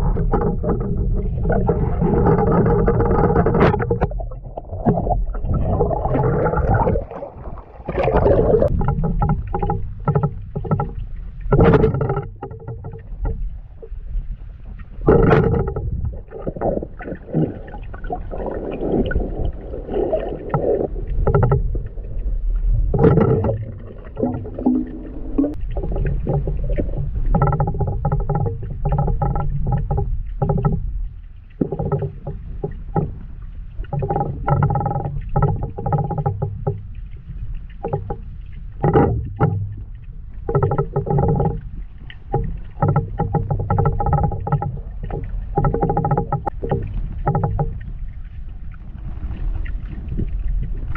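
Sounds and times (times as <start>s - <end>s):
muffled underwater water swishing: 0.0s - 50.9s
underwater knocks and clunks: 0.0s - 50.9s.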